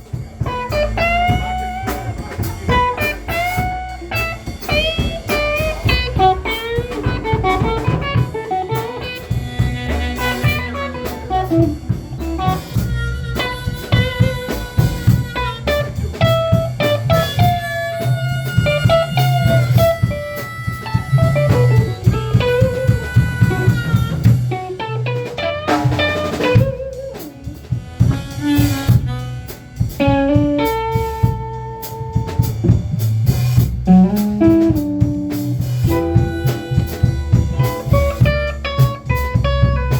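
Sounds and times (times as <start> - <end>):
bass: 0.0 - 39.9
drum kit: 0.0 - 39.9
electric guitar lead: 0.0 - 39.9.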